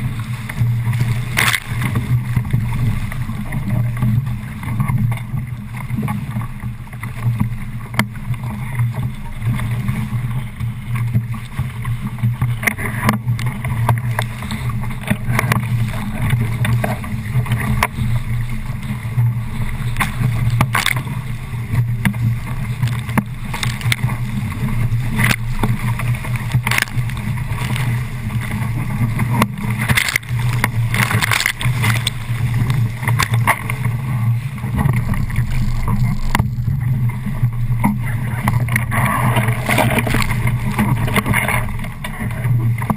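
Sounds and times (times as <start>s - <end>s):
water splashing against boat: 0.0s - 42.9s
wind and water rushing: 0.0s - 42.9s.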